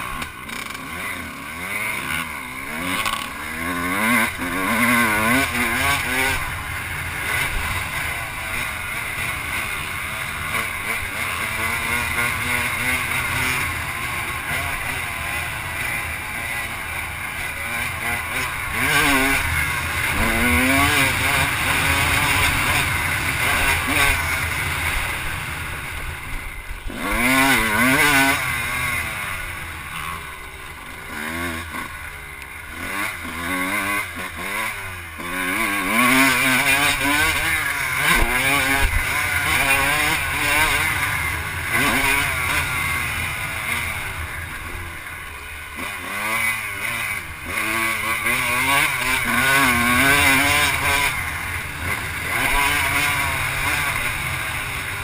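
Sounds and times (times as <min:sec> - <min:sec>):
off-road motorbike engine revving: 0:00.0 - 0:55.0.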